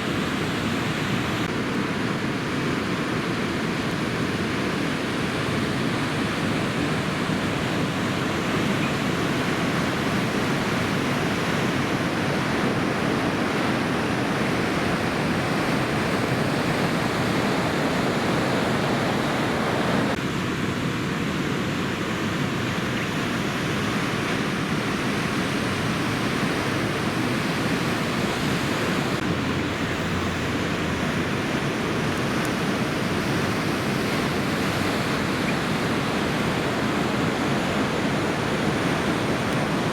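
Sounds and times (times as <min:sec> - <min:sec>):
surf rushing: 0:04.2 - 0:20.2, 0:23.4 - 0:39.9.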